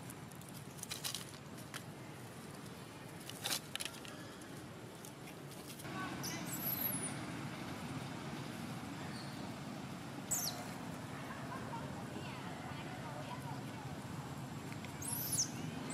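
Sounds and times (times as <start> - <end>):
distant road traffic rumble: 0.0 - 15.9.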